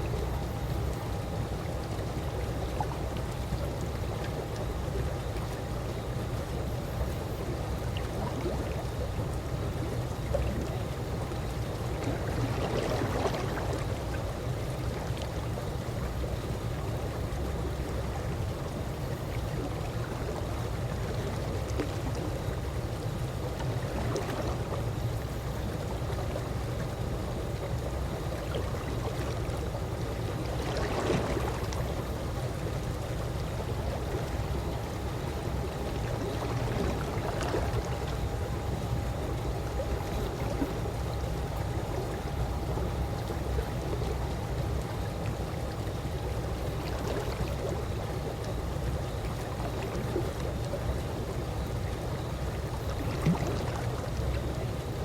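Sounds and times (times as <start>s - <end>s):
pool water lapping: 0.0s - 55.0s
water swishes: 0.0s - 55.0s.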